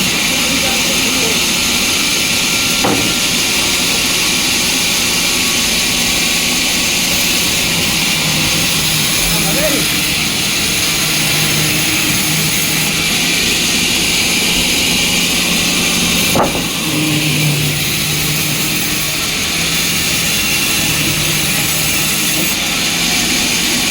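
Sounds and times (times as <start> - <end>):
sawmill machinery humming: 0.0 - 23.9.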